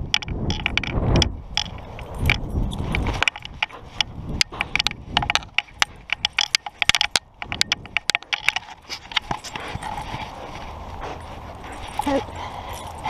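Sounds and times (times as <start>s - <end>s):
metal tags jingling: 0.0s - 13.0s
wind on microphone: 0.0s - 13.0s.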